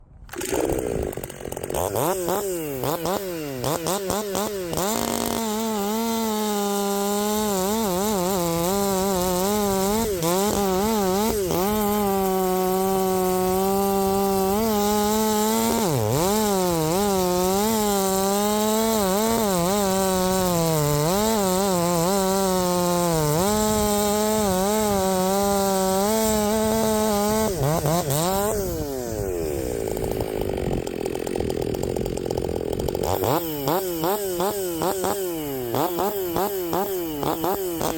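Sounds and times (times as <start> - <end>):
chainsaw revving: 0.3 - 37.9.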